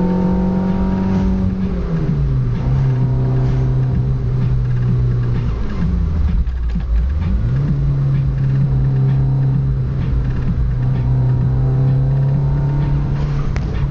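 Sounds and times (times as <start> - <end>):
car engine running: 0.0 - 13.9.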